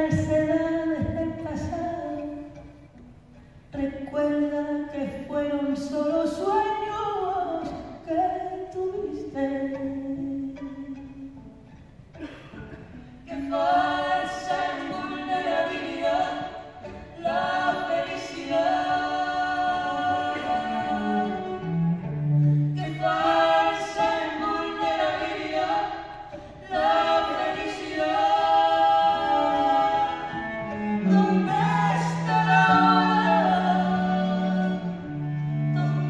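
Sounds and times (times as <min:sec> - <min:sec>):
woman and man singing duet: 0:00.0 - 0:02.6, 0:03.8 - 0:11.4, 0:13.2 - 0:21.7, 0:22.7 - 0:36.0.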